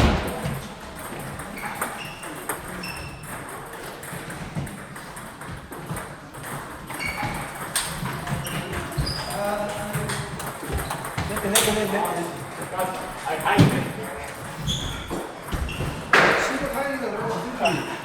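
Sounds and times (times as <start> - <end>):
table tennis balls clicking: 0.0 - 16.8.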